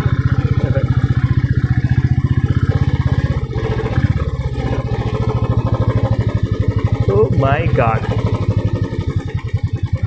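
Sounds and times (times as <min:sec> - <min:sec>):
motorcycle engine labouring: 0:00.0 - 0:10.0.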